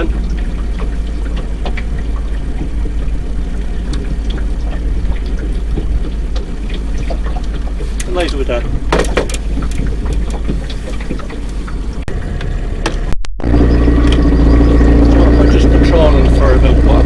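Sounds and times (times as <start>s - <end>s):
steady low rumble: 0.0s - 17.0s
water lapping against boat: 0.0s - 17.0s.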